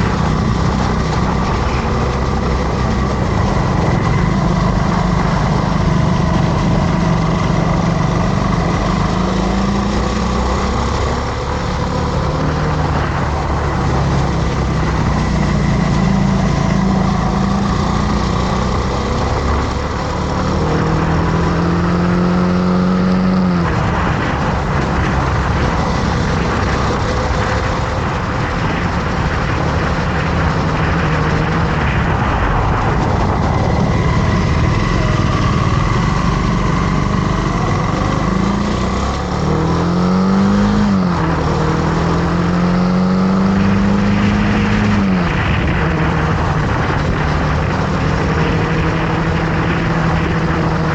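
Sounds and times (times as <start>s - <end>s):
motorcycle engine running: 0.0s - 50.9s
steady rushing noise: 0.0s - 50.9s.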